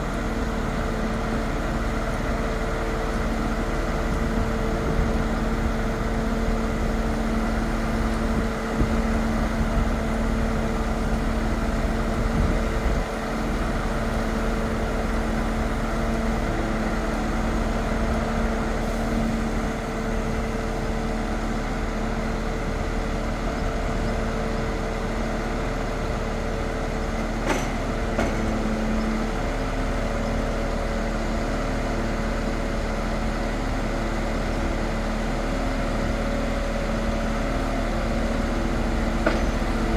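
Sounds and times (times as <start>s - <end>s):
diesel truck engine humming: 0.0s - 39.9s.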